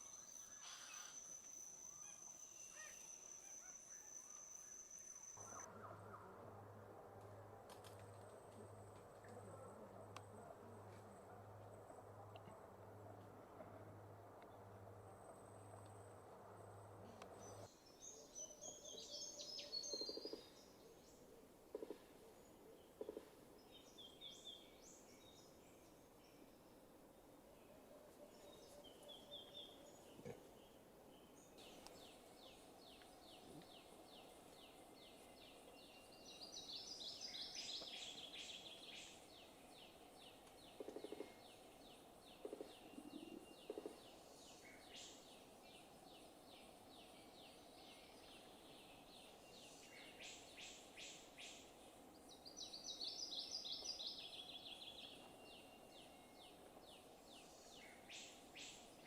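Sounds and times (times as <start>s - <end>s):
faint forest birdsong: 0.0s - 59.0s.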